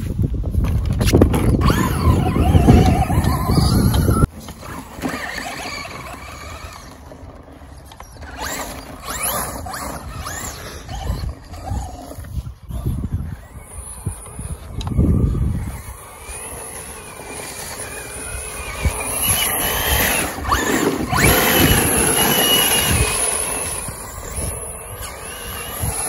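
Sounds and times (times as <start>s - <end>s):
electric motor whining: 1.3s - 26.0s.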